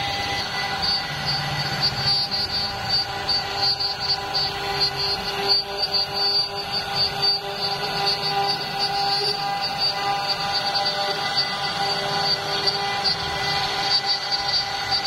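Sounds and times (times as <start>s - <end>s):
bit cutting wood: 0.0s - 15.0s
router spindle whine: 0.0s - 15.0s.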